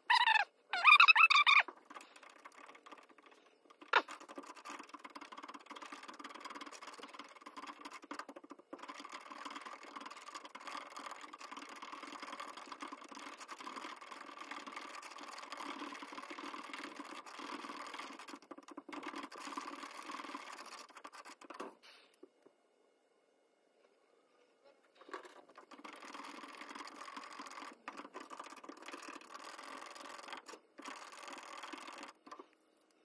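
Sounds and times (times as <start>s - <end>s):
stir stick scraping plastic cup: 0.1s - 21.9s, 25.0s - 32.5s.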